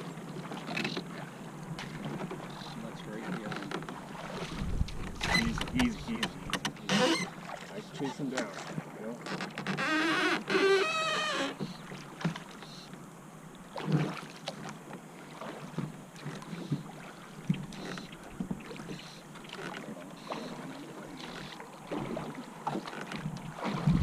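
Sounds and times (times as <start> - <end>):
splashes and knocks: 0.0 - 9.8, 11.6 - 12.8, 13.7 - 24.0
water sloshing against hull: 0.0 - 24.0.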